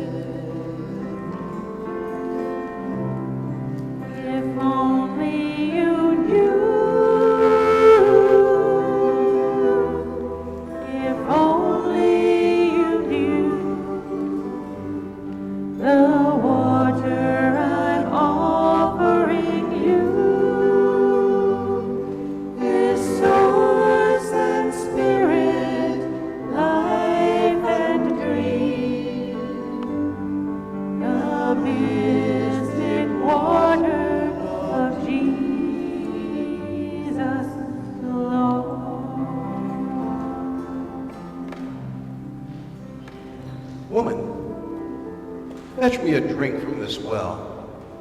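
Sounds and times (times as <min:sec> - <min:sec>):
soft low accompaniment: 0:00.0 - 0:48.0
voices singing long notes: 0:03.8 - 0:42.6.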